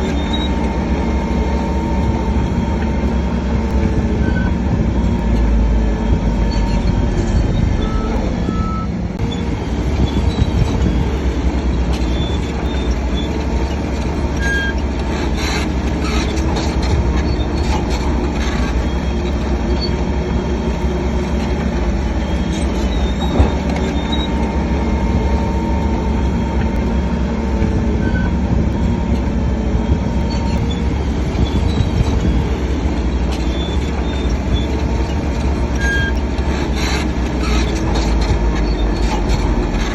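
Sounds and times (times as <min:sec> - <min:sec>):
diesel engine running under load: 0:00.0 - 0:39.9
steel tracks squealing: 0:00.0 - 0:39.9.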